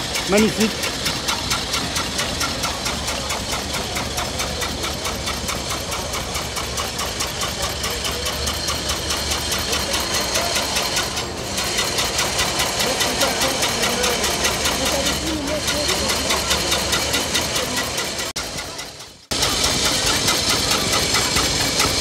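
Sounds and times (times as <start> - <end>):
car engine idling with chugging beat: 0.0 - 22.0.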